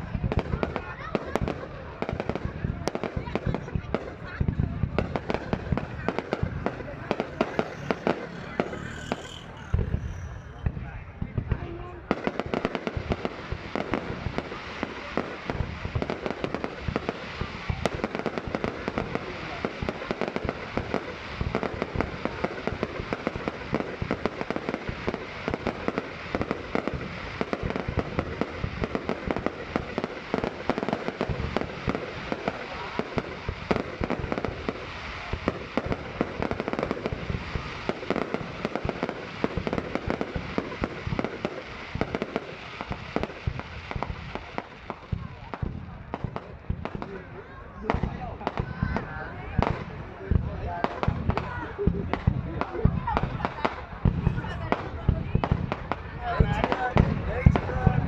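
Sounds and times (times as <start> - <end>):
fireworks bangs and pops: 0.0 - 58.0.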